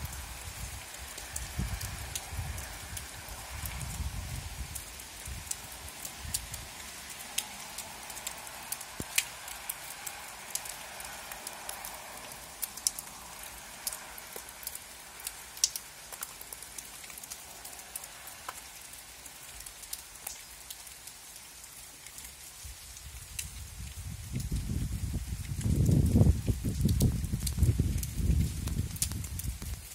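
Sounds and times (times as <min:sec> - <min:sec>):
rain hiss: 0:00.0 - 0:29.9
raindrops tapping: 0:00.1 - 0:29.9.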